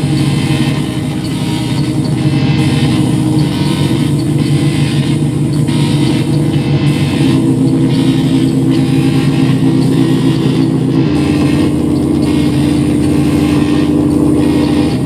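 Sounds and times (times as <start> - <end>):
electronic synthesizer drone: 0.0 - 15.0.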